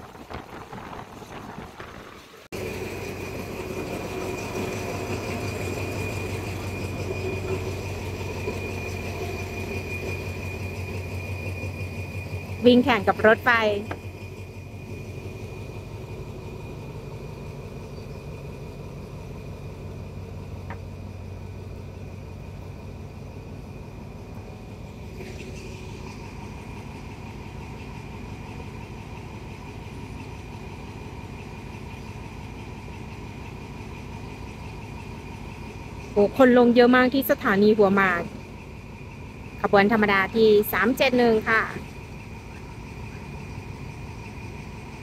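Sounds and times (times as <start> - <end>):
diesel train engine hum: 0.0 - 45.0
constant high tone: 2.6 - 45.0.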